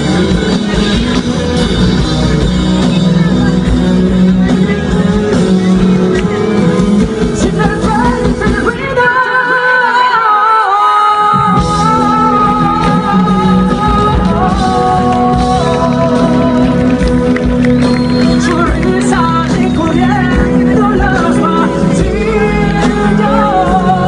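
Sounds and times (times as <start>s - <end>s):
pop-rock band playing: 0.0s - 24.0s
person singing: 2.2s - 24.0s.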